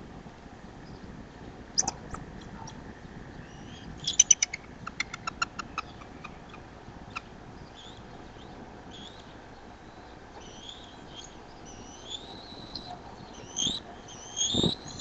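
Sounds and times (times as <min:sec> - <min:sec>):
eagles chirping: 0:01.8 - 0:02.8, 0:03.4 - 0:15.0.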